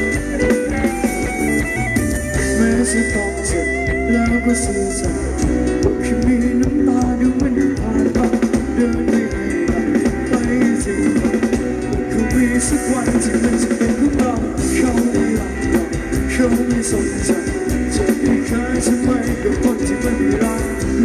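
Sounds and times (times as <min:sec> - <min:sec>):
drum kit beat: 0:00.0 - 0:21.0
guitar: 0:00.0 - 0:21.0
live band playing dance music: 0:00.0 - 0:21.0.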